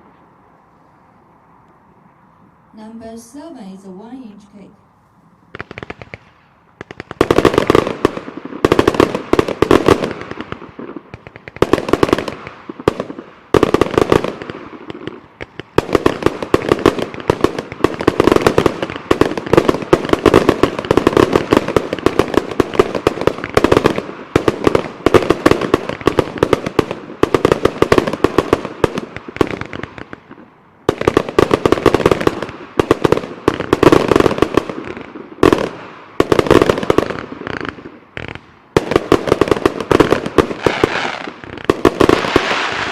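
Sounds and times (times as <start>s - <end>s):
fireworks cake firing volleys: 5.6s - 30.3s, 30.9s - 42.9s.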